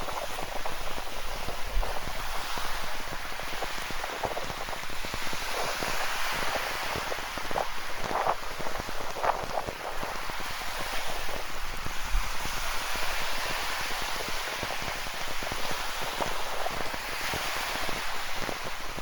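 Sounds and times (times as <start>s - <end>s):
ocean surf washing on shore: 0.0s - 19.0s.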